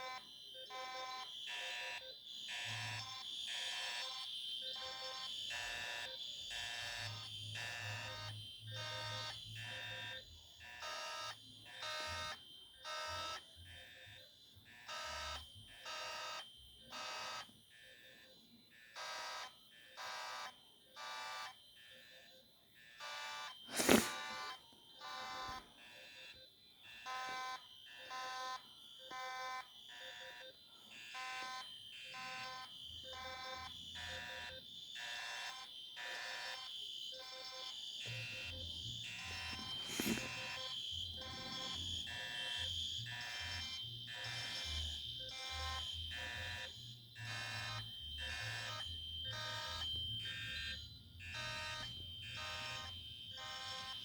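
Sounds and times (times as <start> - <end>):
fire alarm horns pulsing: 0.0 - 54.0.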